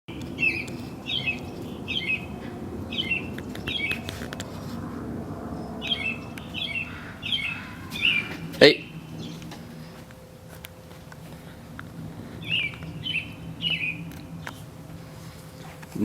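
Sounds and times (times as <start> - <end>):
bird chirping: 0.1 - 16.0
steady low hum: 0.1 - 16.0.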